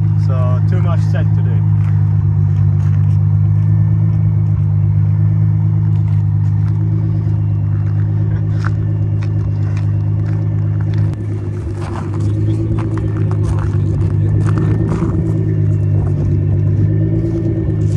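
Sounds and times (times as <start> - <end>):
car engine droning: 0.0 - 17.9.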